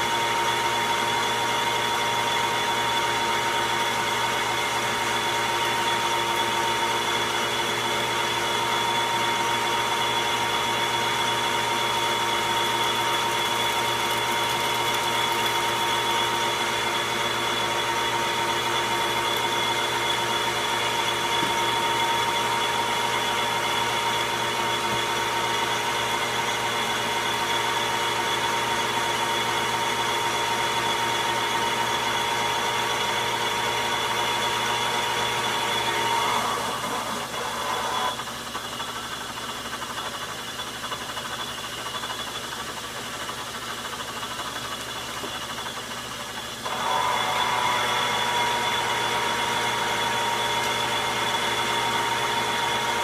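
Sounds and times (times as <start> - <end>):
high lathe whine: 0.0 - 53.0
metal lathe humming: 0.0 - 53.0.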